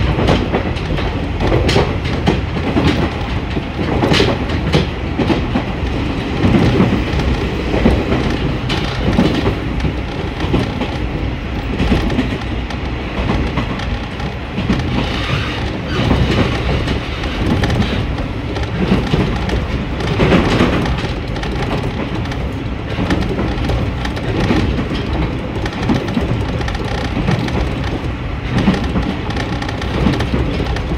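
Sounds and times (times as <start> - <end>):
wheels rumbling on rails: 0.0 - 30.9.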